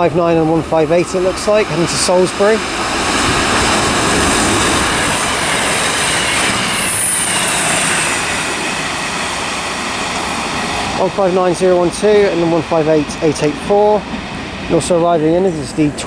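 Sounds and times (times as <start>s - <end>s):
high wheel squeal: 0.0s - 16.0s
train wheels rumbling on rail: 0.0s - 16.0s.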